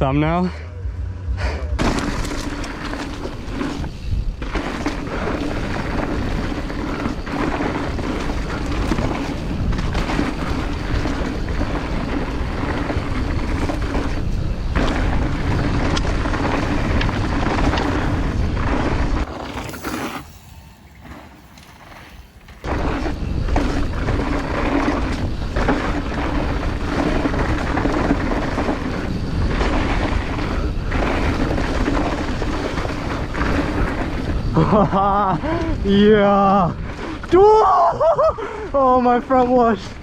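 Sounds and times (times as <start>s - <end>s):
wind rushing over microphone: 0.0s - 38.8s
bike tyre and frame rattle: 1.8s - 40.0s.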